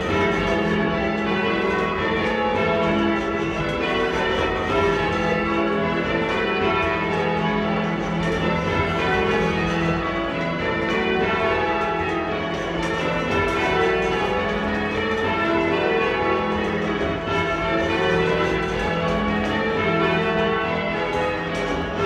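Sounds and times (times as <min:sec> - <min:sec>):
church bells change ringing: 0:00.0 - 0:22.0.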